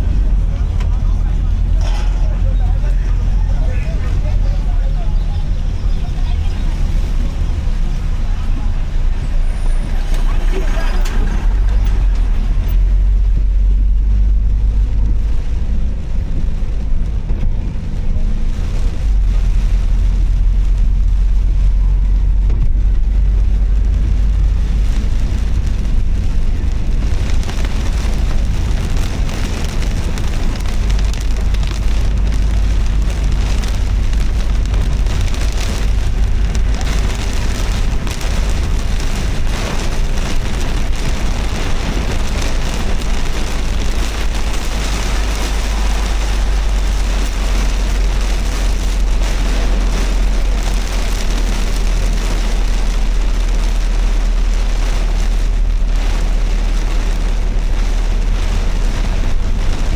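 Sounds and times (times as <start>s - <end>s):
car driving rumble: 0.0s - 59.9s
rain: 0.0s - 59.9s
tyres hissing on wet road: 0.0s - 59.9s.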